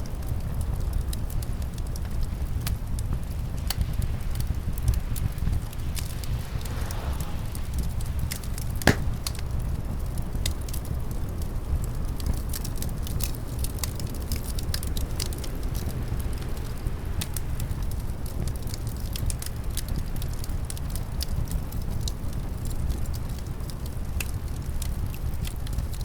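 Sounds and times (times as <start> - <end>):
low rumble of wind: 0.0 - 26.0
wood fire crackling and popping: 0.0 - 26.0.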